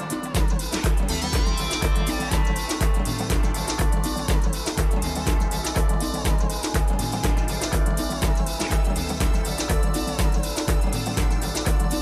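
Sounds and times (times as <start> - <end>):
hi-hats: 0.0 - 12.0
kick drum: 0.0 - 12.0.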